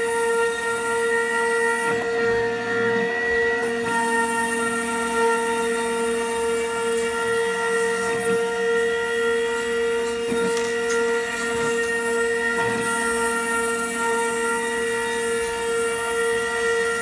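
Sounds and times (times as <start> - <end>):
cnc mill spindle whining: 0.0 - 17.0.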